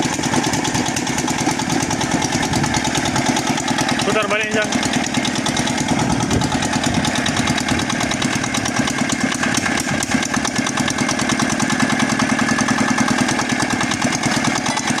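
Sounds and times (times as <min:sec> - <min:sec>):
drilling machine engine running: 0:00.0 - 0:15.0.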